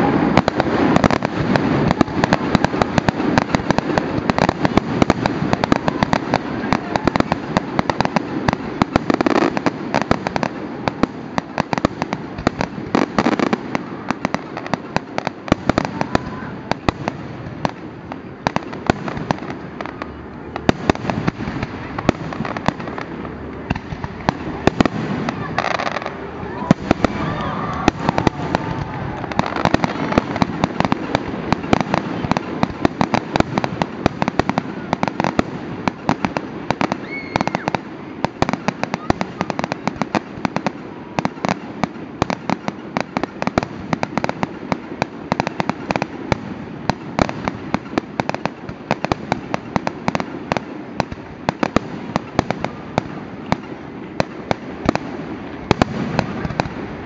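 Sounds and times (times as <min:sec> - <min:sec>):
fireworks bursting with sharp bangs: 0:00.0 - 0:57.0
rumbling crackle of fireworks: 0:00.0 - 0:57.0.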